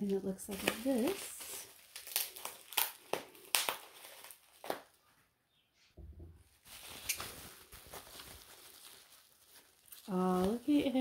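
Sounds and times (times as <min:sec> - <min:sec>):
plastic wrapping crackling: 0:00.0 - 0:05.1, 0:06.5 - 0:11.0.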